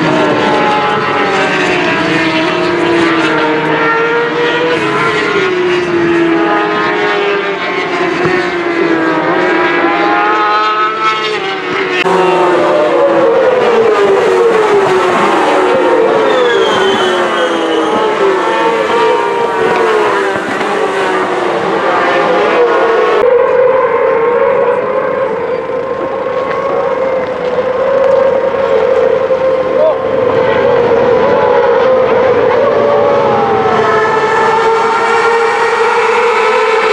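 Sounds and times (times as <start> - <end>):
racing engines revving: 0.0 - 36.9.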